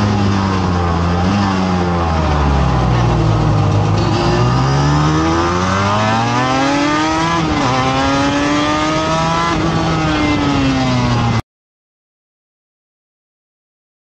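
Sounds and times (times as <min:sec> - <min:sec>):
race motorcycle engine accelerating: 0:00.0 - 0:11.4.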